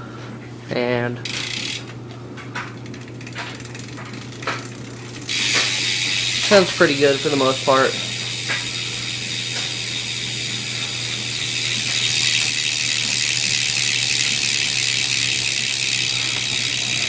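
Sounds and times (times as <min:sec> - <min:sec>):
bike hub ratcheting: 0:01.2 - 0:17.0.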